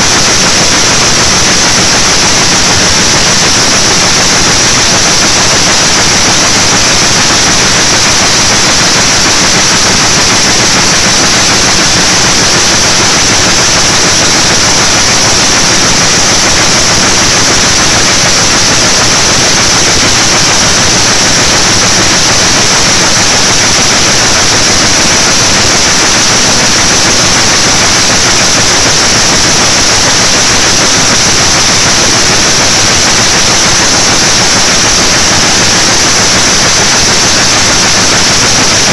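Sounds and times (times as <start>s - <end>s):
weaving loom clattering: 0.0s - 38.9s.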